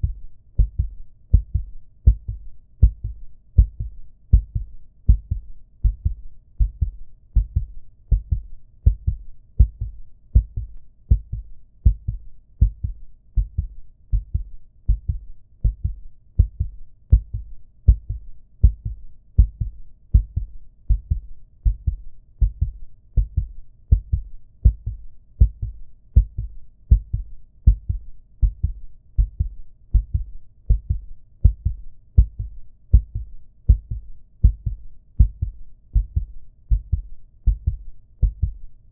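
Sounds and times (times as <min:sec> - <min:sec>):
heartbeat thumps: 0:00.0 - 0:38.8.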